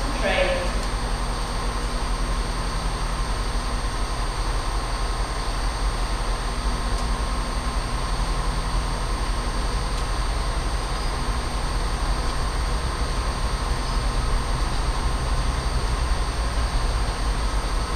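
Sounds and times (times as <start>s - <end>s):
diesel train engine drone: 0.0s - 17.9s.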